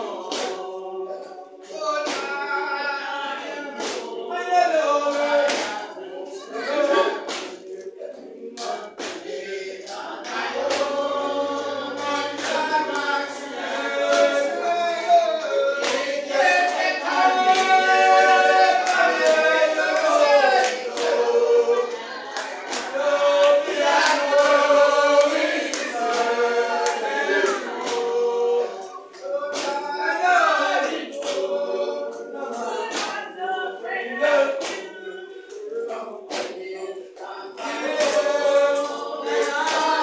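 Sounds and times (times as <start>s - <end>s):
congregation singing in unison: 0.0s - 40.0s.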